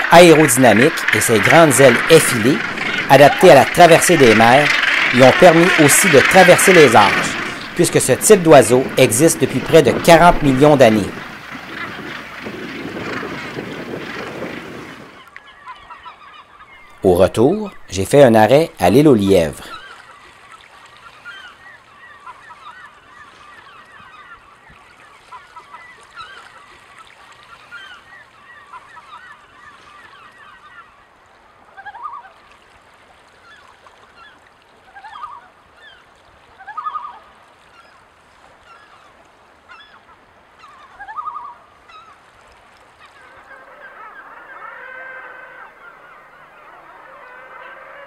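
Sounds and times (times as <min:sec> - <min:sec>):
seabird honking calls: 0:00.0 - 0:31.0, 0:31.6 - 0:32.4, 0:34.2 - 0:38.0, 0:38.6 - 0:42.2, 0:42.9 - 0:48.0
seabirds calling: 0:00.0 - 0:32.5, 0:33.3 - 0:48.0.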